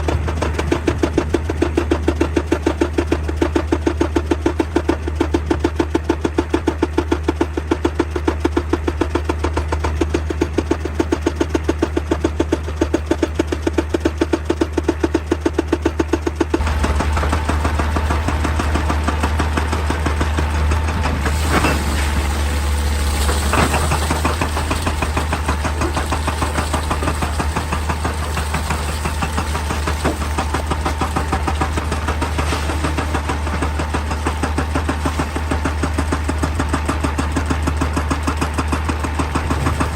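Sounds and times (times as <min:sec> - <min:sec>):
diesel engine pulsing: 0:00.0 - 0:39.9.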